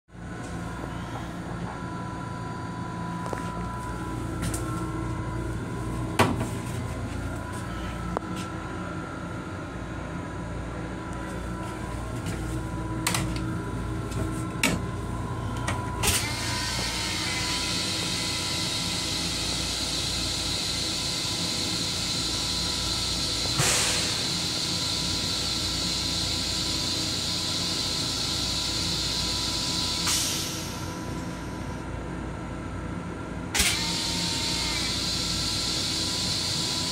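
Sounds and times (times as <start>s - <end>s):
train low rumble: 0.1s - 36.9s.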